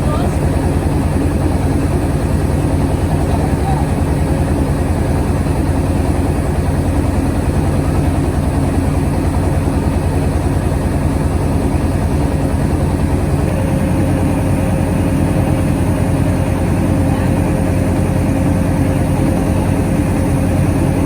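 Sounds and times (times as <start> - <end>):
mill engine running: 0.0 - 21.0.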